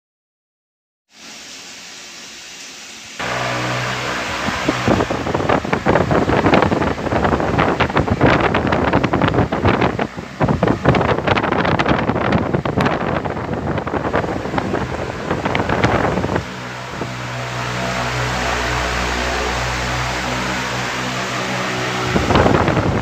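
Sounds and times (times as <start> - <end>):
fan running hum: 1.2 - 23.0
fan airflow buffeting microphone: 1.3 - 23.0.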